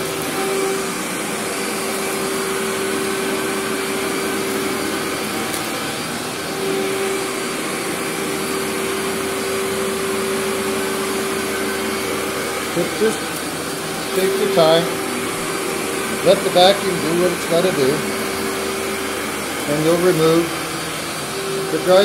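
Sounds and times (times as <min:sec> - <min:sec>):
vacuum cleaner on carpet: 0:00.0 - 0:22.0.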